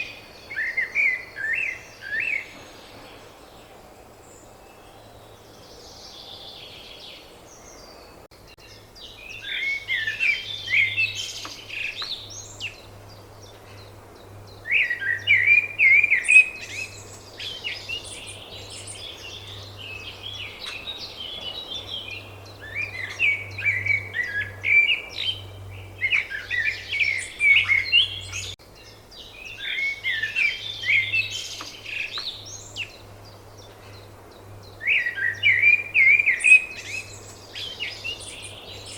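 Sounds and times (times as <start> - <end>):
songbird chirping and warbling: 0.0 - 38.9.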